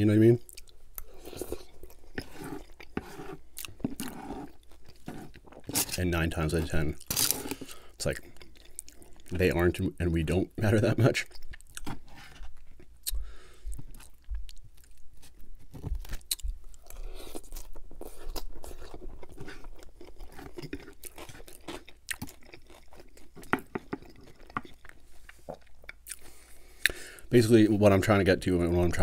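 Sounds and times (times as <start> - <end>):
close chewing with crunches: 0.4 - 9.5, 11.1 - 27.0.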